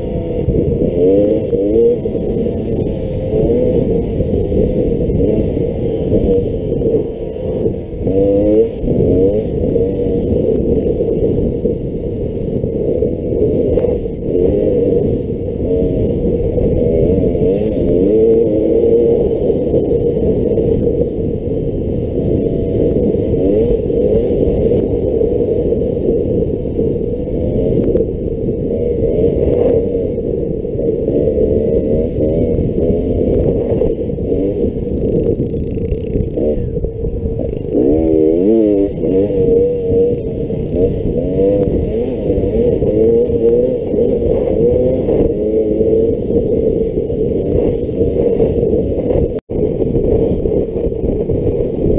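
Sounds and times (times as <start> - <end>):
dirt bike engine revving: 0.0 - 51.9
wind rushing at microphone: 0.0 - 51.9.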